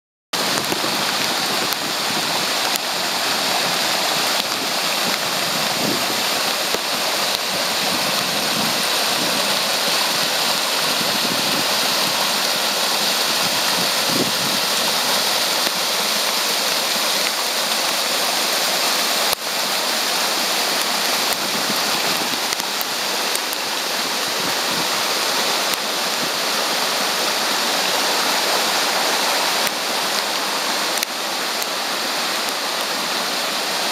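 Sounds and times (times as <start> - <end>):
floodwater pouring and surging: 0.4 - 33.9
heavy rain: 0.4 - 33.9.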